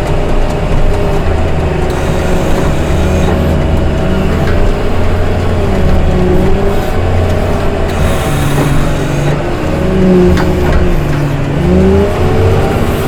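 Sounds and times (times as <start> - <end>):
snow-clearing machine engine: 0.0 - 13.0.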